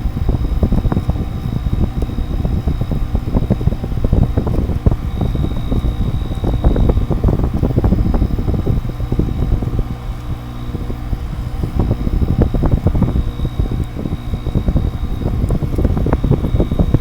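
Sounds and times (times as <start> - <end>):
air conditioner humming: 0.0 - 17.0
high whine: 0.0 - 17.0
wind buffeting microphone: 0.0 - 17.0.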